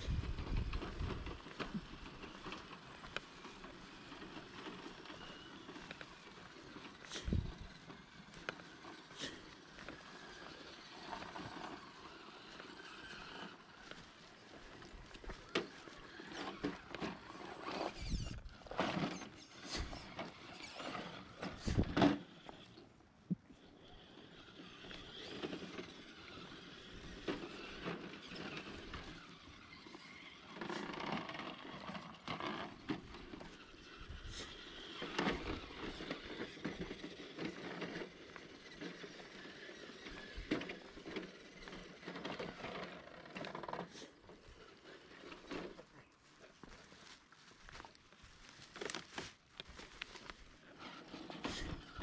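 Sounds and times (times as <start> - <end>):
electric motor and gears whining: 0.0 - 46.8, 47.7 - 52.0
tyres crunching over gravel: 0.0 - 52.0.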